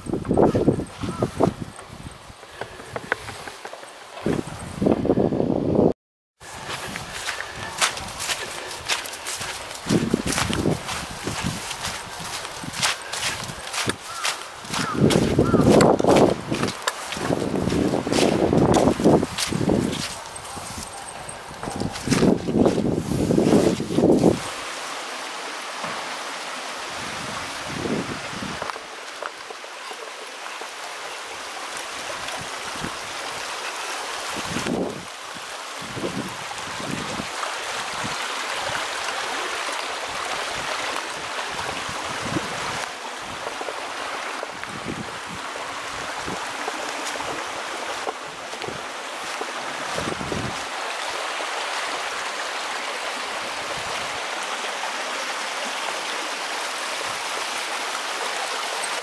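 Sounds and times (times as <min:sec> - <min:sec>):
stream babbling over rocks: 0:06.4 - 0:59.0.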